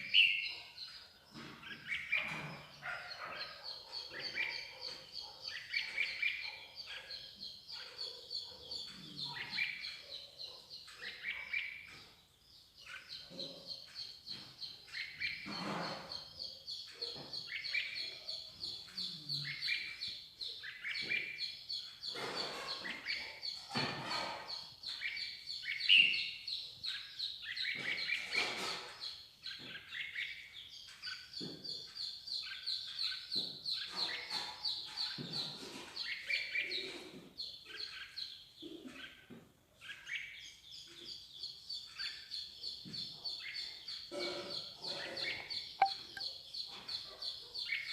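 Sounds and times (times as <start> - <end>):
small songbirds chirping: 0.0 - 47.9.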